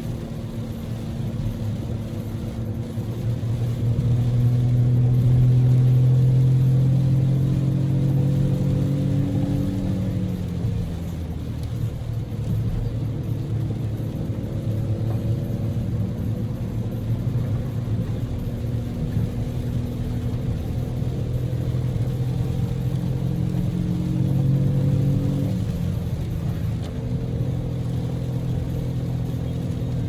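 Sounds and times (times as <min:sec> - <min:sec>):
car engine running: 0:00.0 - 0:30.0
road noise: 0:00.0 - 0:30.0.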